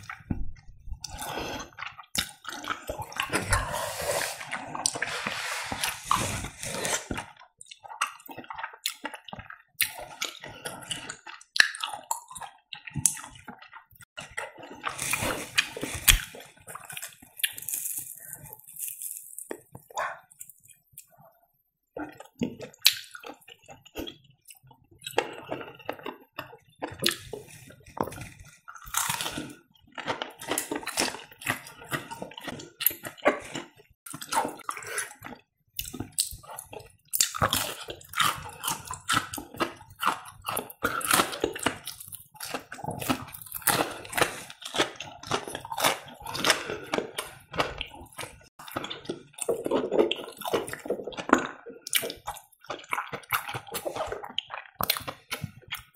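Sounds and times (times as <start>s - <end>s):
person chewing with mouth clicks: 0.0s - 21.2s, 22.0s - 55.9s.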